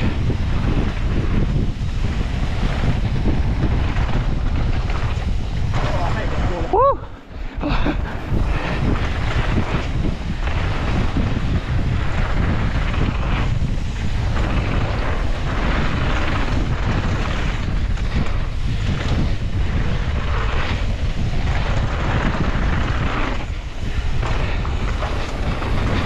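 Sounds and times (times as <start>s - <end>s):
mountain bike rumble and rattle: 0.0s - 26.0s
wind buffeting microphone: 0.0s - 26.0s.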